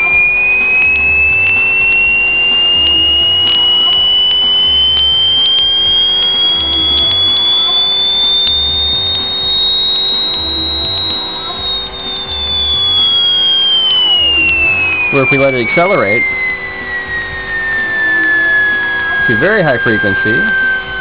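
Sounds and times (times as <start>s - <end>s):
faint low throb: 0.0s - 21.0s
high steady whistle from speaker: 0.0s - 21.0s.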